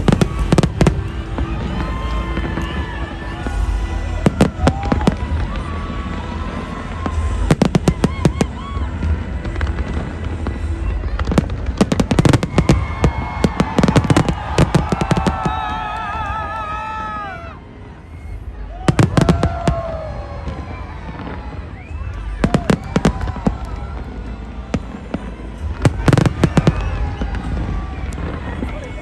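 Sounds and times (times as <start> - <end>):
fireworks crackling bangs: 0.0 - 29.0.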